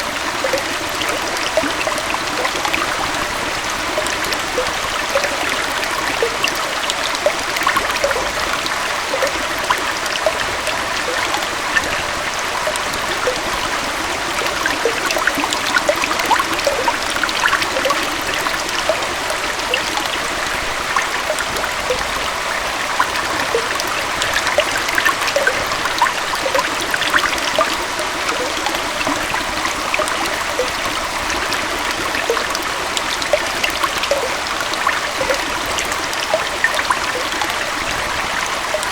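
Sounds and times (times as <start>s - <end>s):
waterfall and stream flowing: 0.0s - 38.9s.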